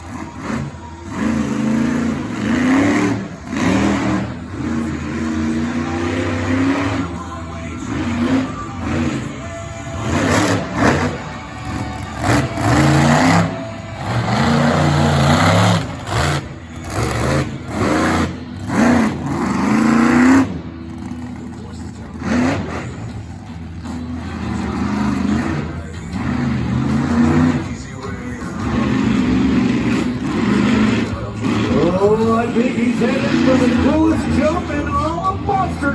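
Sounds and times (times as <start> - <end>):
monster truck engine revving: 0.0 - 35.9.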